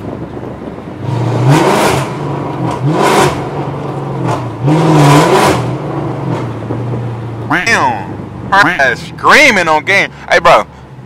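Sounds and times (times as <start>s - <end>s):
car engine revving: 0.0s - 9.9s
low engine hum: 0.0s - 11.0s.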